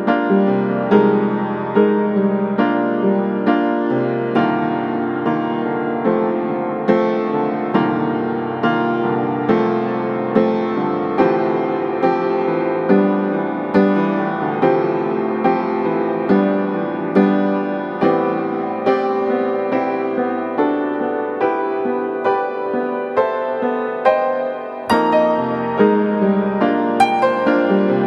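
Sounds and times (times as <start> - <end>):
slow piano piece: 0.0 - 28.0.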